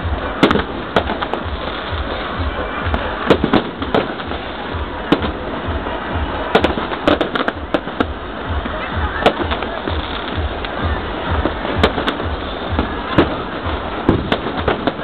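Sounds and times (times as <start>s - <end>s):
firework bangs: 0.0s - 15.0s
firework crackle: 0.0s - 15.0s.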